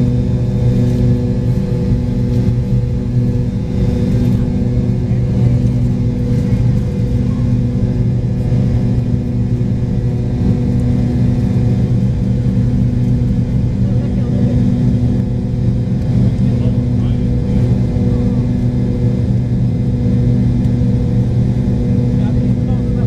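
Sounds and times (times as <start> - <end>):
jet engines droning in cabin: 0.0 - 23.0.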